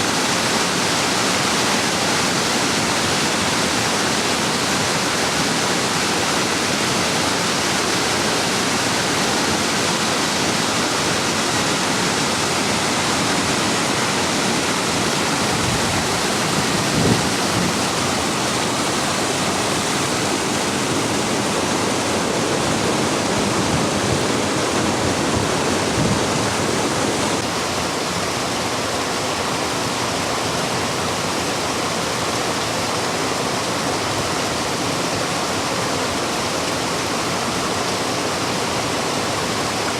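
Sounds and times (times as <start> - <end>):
water rushing down a ravine: 0.0 - 39.9.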